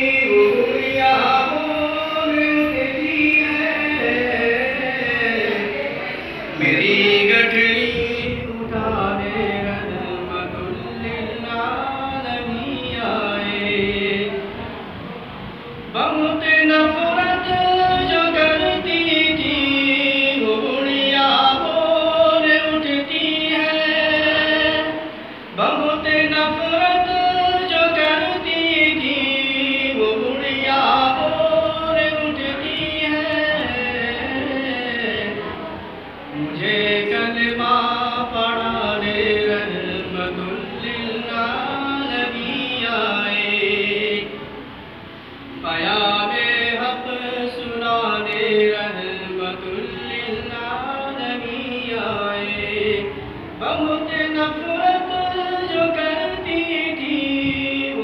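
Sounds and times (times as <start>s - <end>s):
man chanting melodically: 0.0s - 14.8s, 15.8s - 44.6s, 45.4s - 58.0s.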